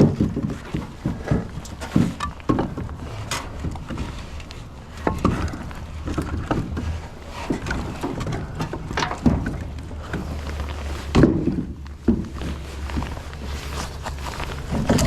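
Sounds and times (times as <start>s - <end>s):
firewood pieces knocking together: 0.0s - 15.0s
steady low hum: 0.0s - 15.0s.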